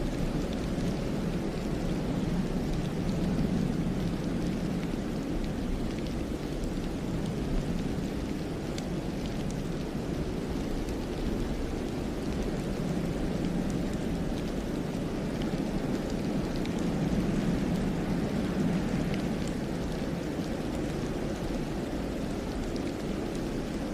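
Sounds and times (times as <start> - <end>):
low rumble of wind: 0.0 - 23.9.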